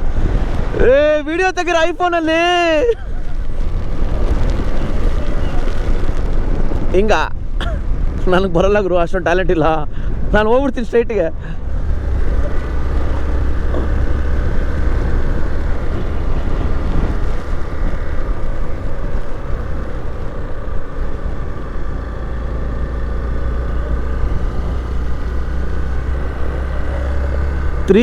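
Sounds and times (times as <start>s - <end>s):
motorcycle engine drone: 0.0s - 28.0s
wind buffeting microphone: 0.0s - 28.0s.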